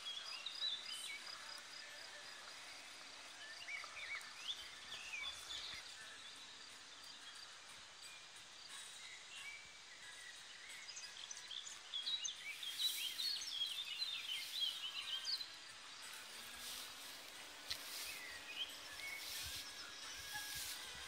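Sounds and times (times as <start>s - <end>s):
faint outdoor hiss: 0.0s - 21.0s
songbirds chirping: 0.0s - 21.0s.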